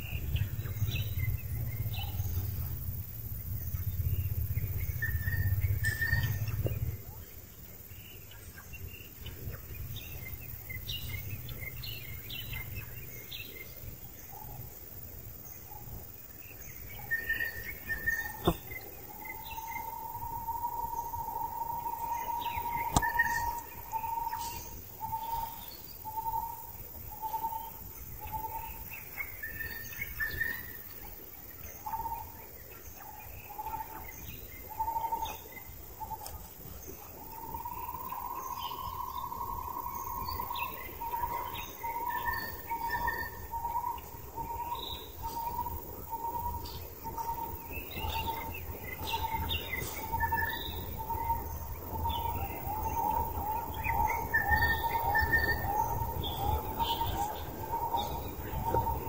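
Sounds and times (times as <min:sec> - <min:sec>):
birds chirping: 0:00.0 - 0:15.0, 0:15.6 - 0:31.0, 0:31.6 - 0:59.0.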